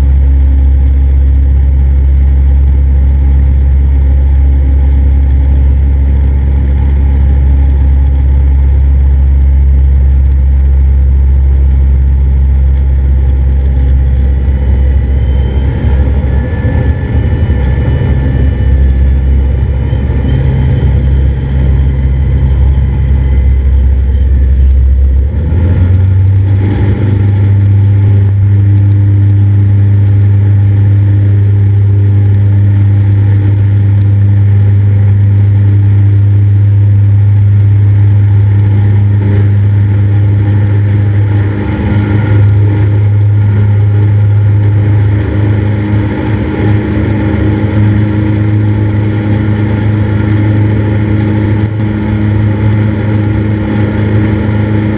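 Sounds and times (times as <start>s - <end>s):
propeller plane engine: 0.0s - 54.9s.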